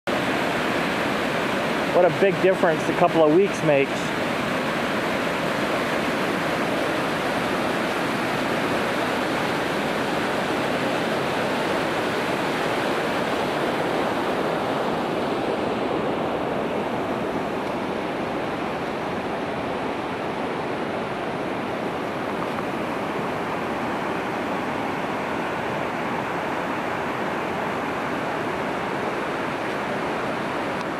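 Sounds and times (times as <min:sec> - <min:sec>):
whitewater rushing over rock: 0:00.1 - 0:30.9.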